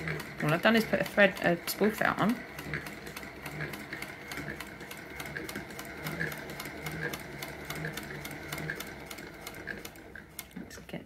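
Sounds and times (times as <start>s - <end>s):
sewing machine stitching: 0.0s - 10.9s.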